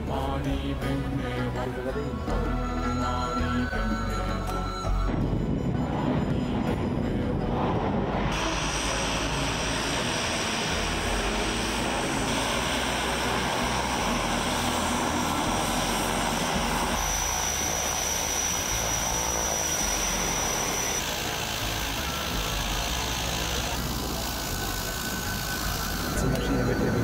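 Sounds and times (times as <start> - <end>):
engine drone: 0.0 - 27.0
rushing noise: 4.9 - 27.0.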